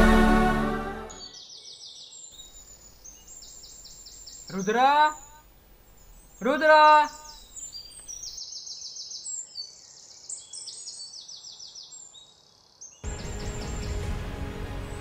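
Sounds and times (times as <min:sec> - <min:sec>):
songbirds singing: 0:01.2 - 0:14.0.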